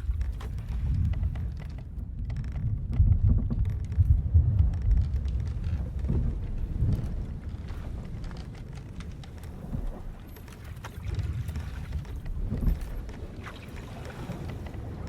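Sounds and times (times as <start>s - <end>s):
low rumble of sea and hull: 0.0s - 15.0s
wooden creaks and ticks: 0.0s - 15.0s.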